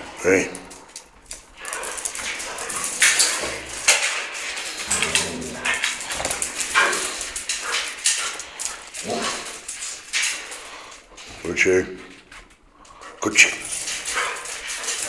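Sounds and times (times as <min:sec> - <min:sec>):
dogs huffing and grumbling: 0:00.0 - 0:11.4, 0:12.2 - 0:15.0.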